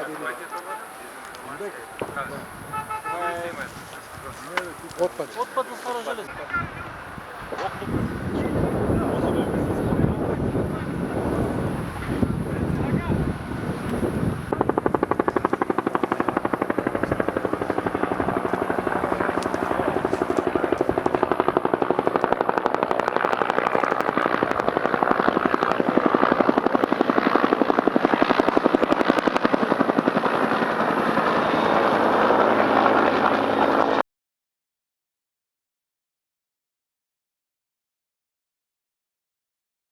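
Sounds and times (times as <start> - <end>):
helicopter rotor beating: 0.0 - 34.0.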